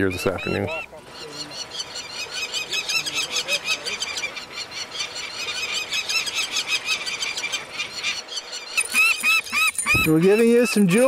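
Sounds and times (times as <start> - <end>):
falcons calling harsh squealing notes: 0.0 - 11.0.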